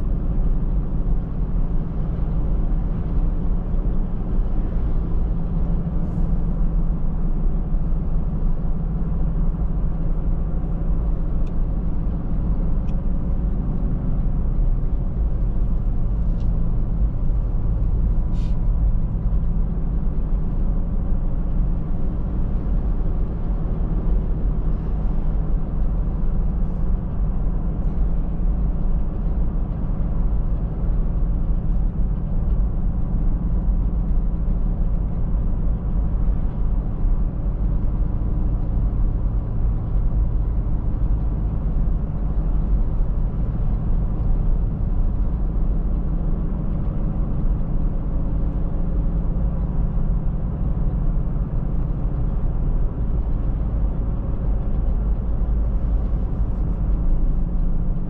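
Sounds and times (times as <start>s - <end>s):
car driving road and engine rumble: 0.0s - 58.0s.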